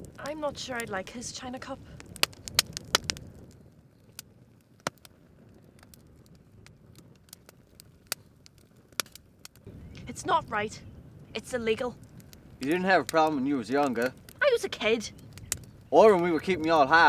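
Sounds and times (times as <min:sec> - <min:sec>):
campfire crackling and popping: 0:00.0 - 0:17.0
low fire hiss: 0:00.0 - 0:17.0.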